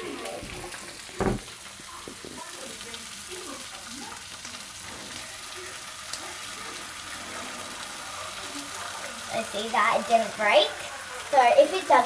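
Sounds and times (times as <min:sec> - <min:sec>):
egg and bacon sizzling in pan: 0:00.0 - 0:12.0.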